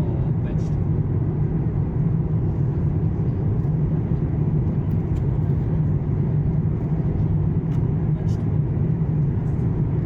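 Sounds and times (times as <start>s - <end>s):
airliner cabin engine rush: 0.0s - 10.0s.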